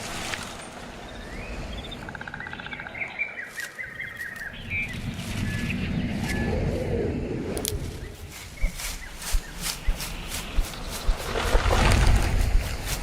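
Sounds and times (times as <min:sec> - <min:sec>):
birds chirping and trilling: 0:00.4 - 0:13.0.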